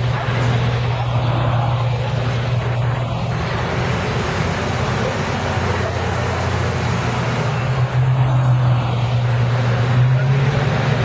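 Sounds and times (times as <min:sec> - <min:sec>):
bus diesel engine driving past: 0:00.0 - 0:11.0.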